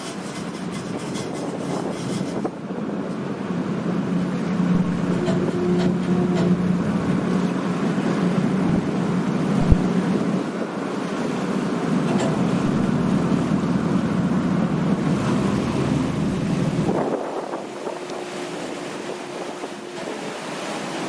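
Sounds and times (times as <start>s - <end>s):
ferry engine humming: 0.0s - 21.0s
water wash: 0.0s - 21.0s
wind buffeting microphone: 0.0s - 21.0s.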